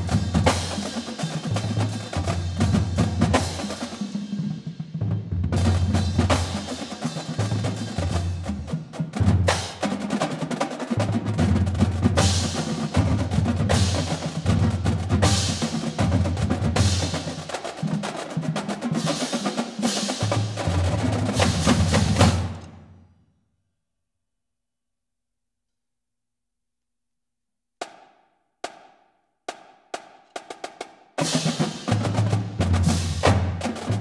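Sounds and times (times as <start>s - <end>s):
snare drums: 0.0s - 23.0s, 27.8s - 34.0s.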